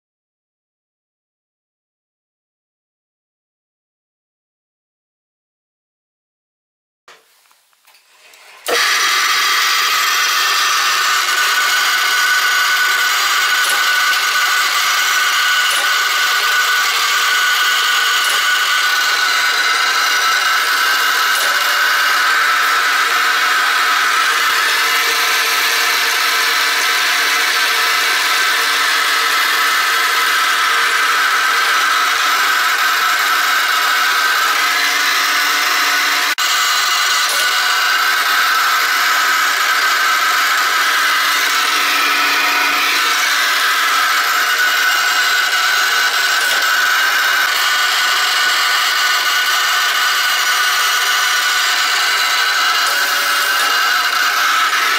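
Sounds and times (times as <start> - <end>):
machine whine over hiss: 8.2 - 54.9.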